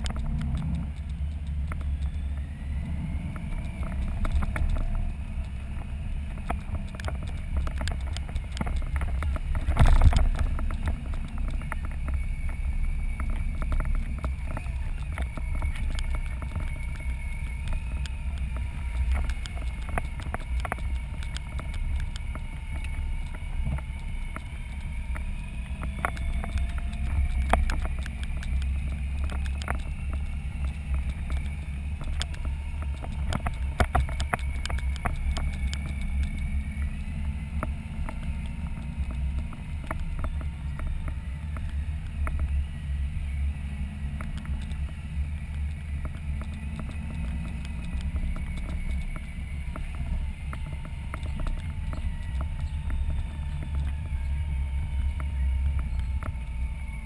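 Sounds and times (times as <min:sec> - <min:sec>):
motorcycle engine rumbling: 0:00.0 - 0:57.0
sharp clicks and ticks: 0:00.0 - 0:57.0
wind buffeting microphone: 0:00.0 - 0:57.0.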